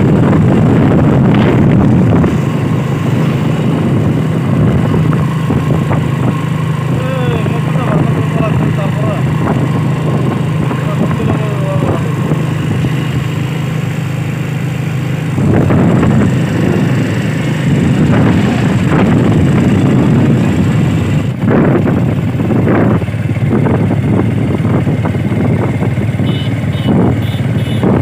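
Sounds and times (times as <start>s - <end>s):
vehicle driving on road: 0.0s - 28.0s
wind rumble on microphone: 0.0s - 28.0s.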